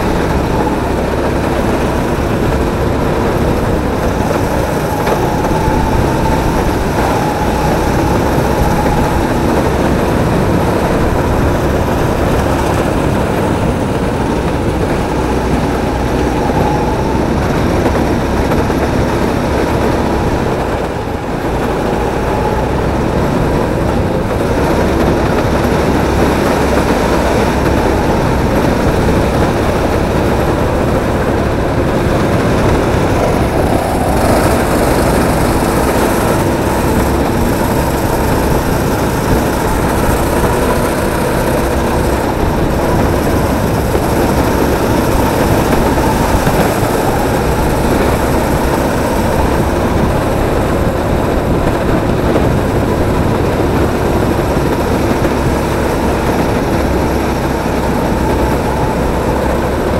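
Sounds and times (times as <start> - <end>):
faint whine: 0.0 - 59.9
kart engine running: 0.0 - 59.9.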